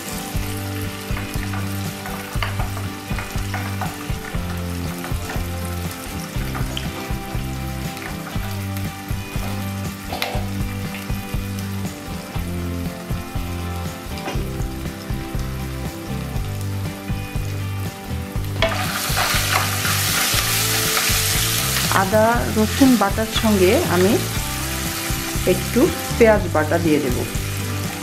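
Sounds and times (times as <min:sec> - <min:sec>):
oil sizzling in a wok: 0:00.0 - 0:28.0.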